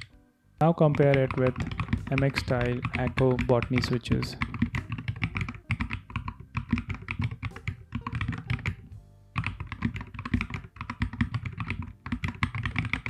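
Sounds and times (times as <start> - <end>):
mechanical keyboard typing: 0.7 - 13.0.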